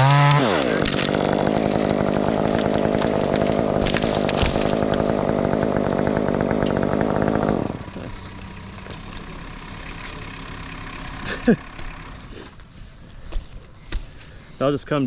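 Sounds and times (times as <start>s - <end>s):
chainsaw running: 0.0s - 12.5s.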